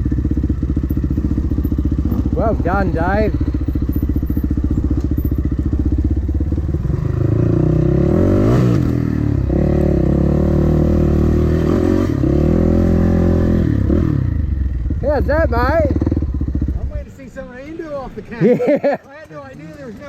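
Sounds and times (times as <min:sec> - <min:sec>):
dirt bike engine puttering: 0:00.1 - 0:20.0.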